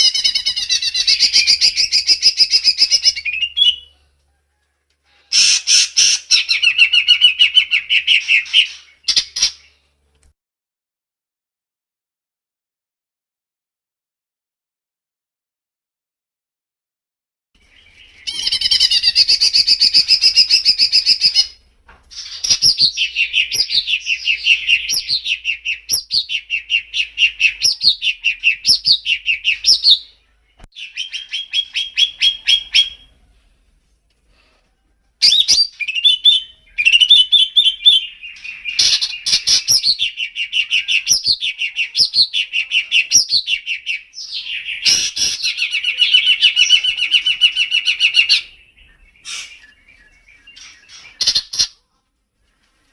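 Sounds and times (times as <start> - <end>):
songbird singing: 0.0 - 10.0, 17.6 - 33.6, 35.2 - 51.8.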